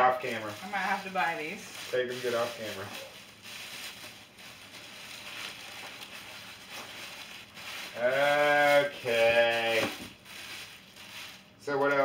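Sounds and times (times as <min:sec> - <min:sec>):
plastic bags crinkling in a box: 0:00.0 - 0:12.0.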